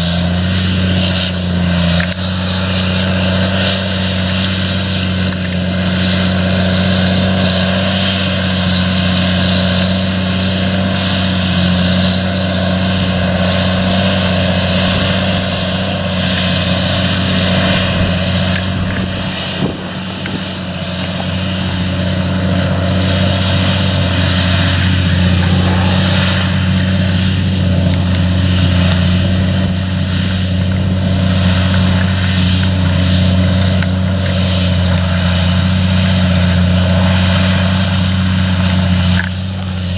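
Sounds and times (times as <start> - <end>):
engine drone with low hum: 0.0 - 39.9.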